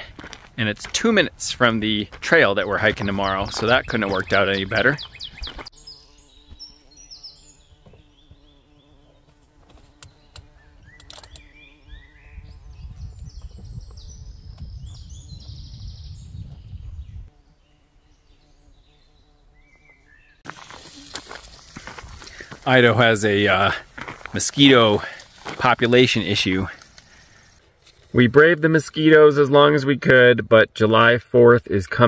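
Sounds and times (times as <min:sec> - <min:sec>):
small birds chirping: 0:00.0 - 0:27.6.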